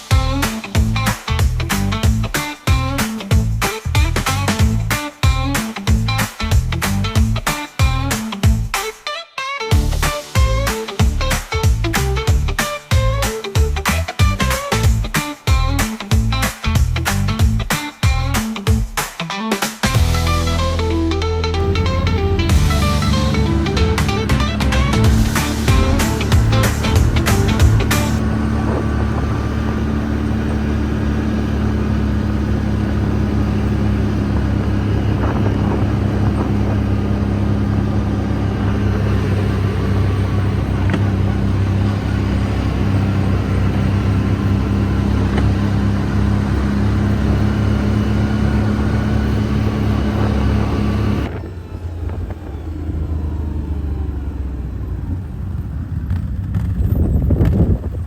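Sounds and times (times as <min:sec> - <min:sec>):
off-road vehicle engine running: 0:00.0 - 0:08.8, 0:09.7 - 0:19.1, 0:19.8 - 0:58.0.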